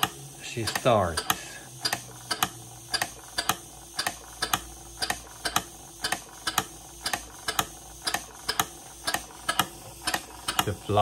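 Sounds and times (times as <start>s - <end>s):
model steam engine valve gear clicking: 0.0s - 10.9s.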